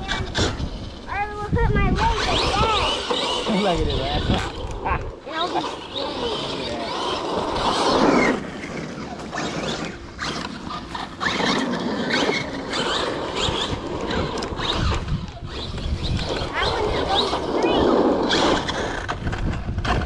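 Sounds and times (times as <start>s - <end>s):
electric motor whining: 0.0s - 20.0s.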